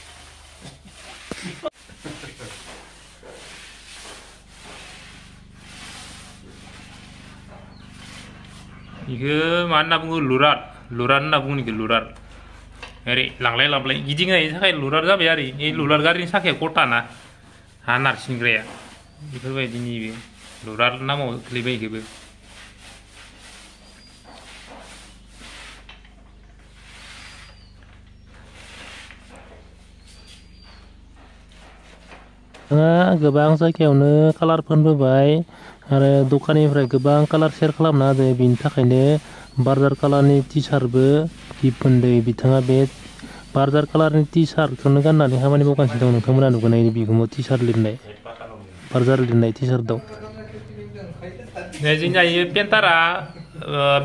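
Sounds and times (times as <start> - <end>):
paint roller swishing on wall: 0.0 - 32.8, 35.8 - 54.0
faint low hum: 0.0 - 54.0.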